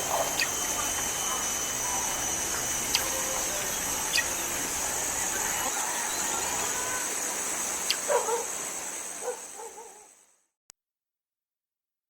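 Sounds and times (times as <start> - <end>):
high hiss of outdoor ambience: 0.0 - 10.4.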